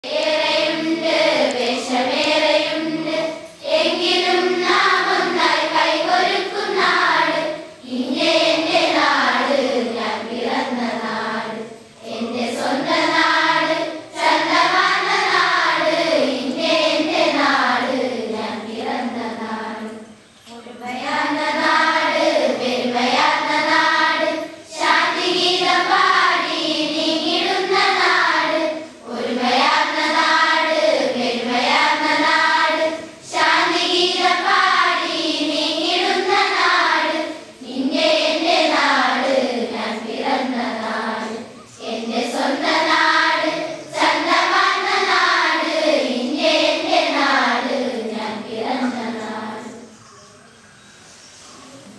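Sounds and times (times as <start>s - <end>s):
girls singing together: 0.0s - 50.1s.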